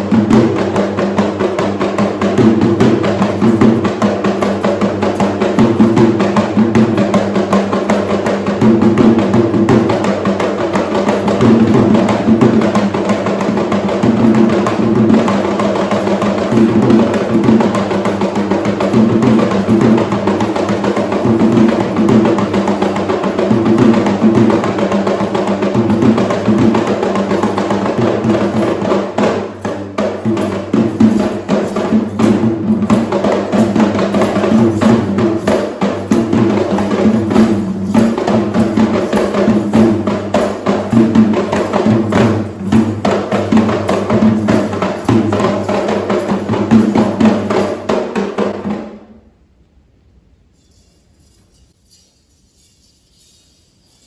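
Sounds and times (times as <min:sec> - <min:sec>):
drums playing a dense rhythm: 0:00.0 - 0:49.1.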